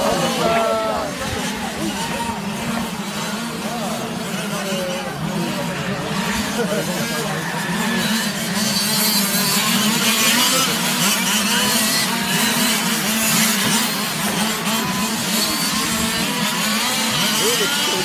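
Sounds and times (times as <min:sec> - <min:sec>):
rc car engines buzzing: 0:00.0 - 0:18.0.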